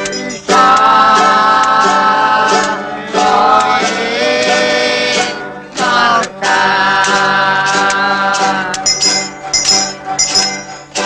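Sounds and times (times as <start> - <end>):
music with singing: 0.0 - 11.0.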